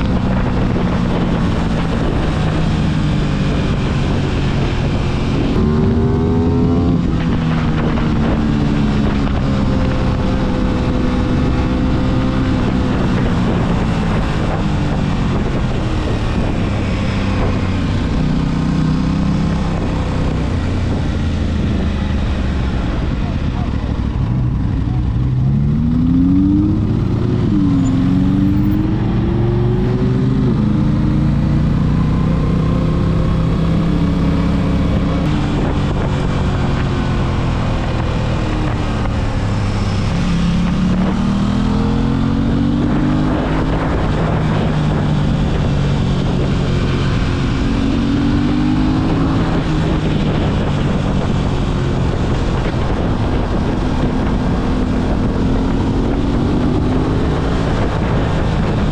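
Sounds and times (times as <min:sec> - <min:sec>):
wind on microphone: 0:00.0 - 0:58.9.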